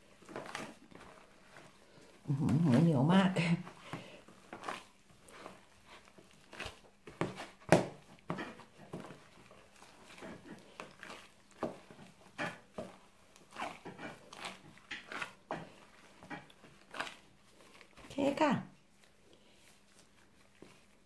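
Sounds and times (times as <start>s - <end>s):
hands squishing ground meat: 0.0s - 21.0s.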